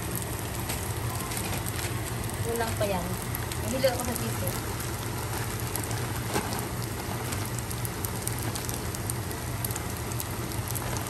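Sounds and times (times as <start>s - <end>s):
rice sizzling in a hot pan: 0.0s - 11.0s
steady low hum: 0.0s - 11.0s.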